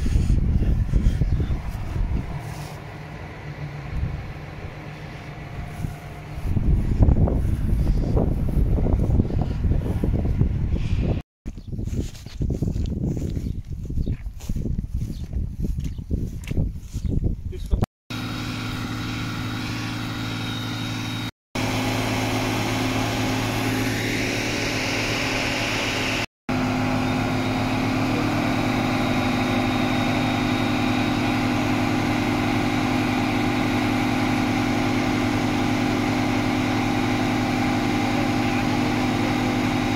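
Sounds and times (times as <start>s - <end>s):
farm machinery engines droning: 0.0s - 11.2s, 17.6s - 39.9s.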